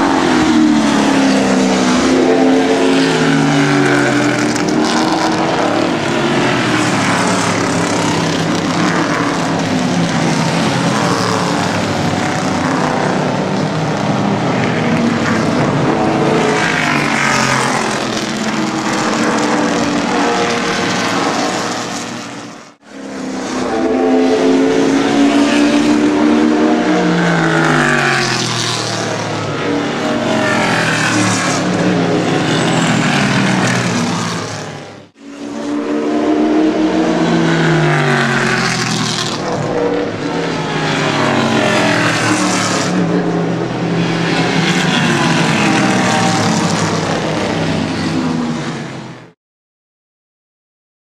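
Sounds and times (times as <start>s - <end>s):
race cars passing at high revs: 0.0s - 49.4s.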